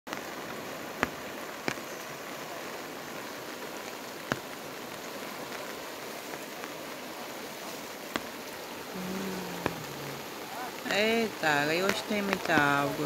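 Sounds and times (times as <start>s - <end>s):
flooding river rushing: 0.1s - 13.0s
heavy rain hissing: 0.1s - 13.0s.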